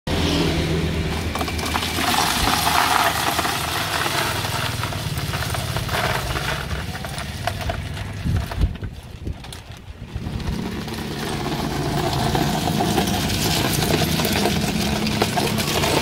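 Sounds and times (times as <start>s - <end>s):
ice cubes clattering into tub: 1.1s - 16.0s.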